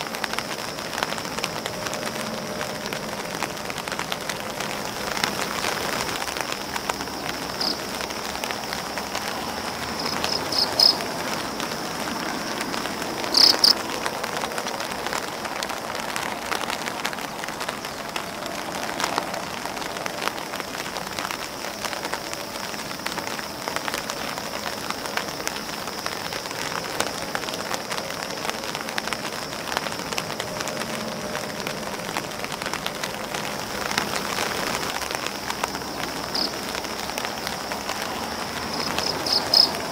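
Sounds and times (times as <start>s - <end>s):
rain patter on grass: 0.0s - 39.9s
raindrops ticking on umbrella: 0.0s - 39.9s.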